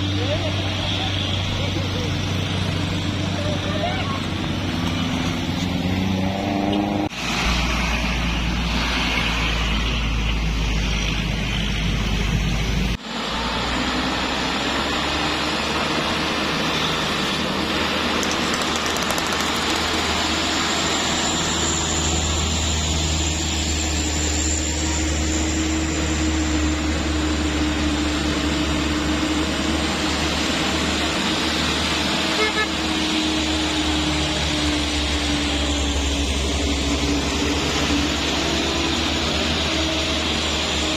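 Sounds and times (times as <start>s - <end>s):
heavy truck diesel engines droning: 0.0s - 40.9s.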